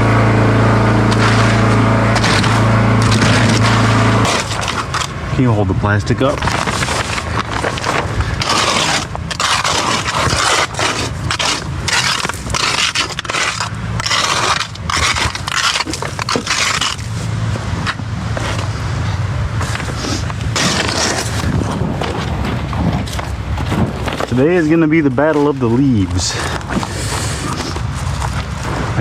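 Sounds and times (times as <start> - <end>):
engine running low: 0.0 - 29.0
hand tools scraping wet concrete: 1.0 - 18.8, 19.6 - 28.7.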